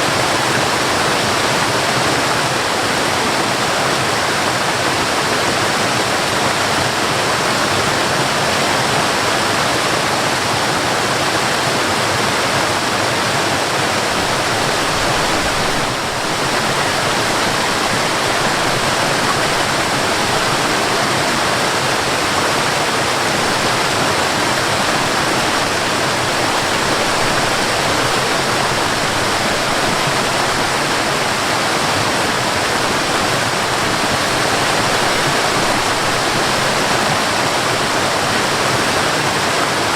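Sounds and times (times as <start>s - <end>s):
waterfall pouring and crashing: 0.0s - 39.9s.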